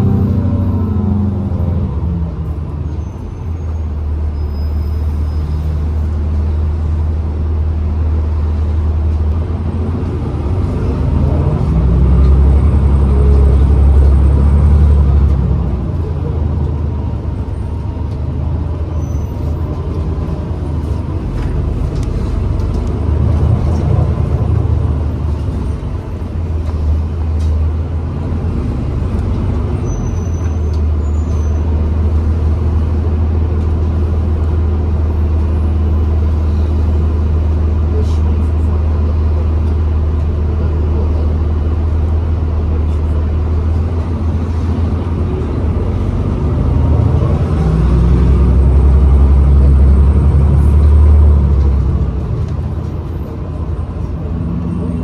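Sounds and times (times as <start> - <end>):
bus drivetrain and road rumble: 0.0 - 55.0.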